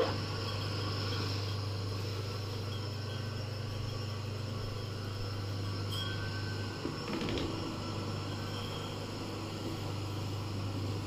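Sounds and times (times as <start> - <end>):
table saw motor humming: 0.0 - 11.0.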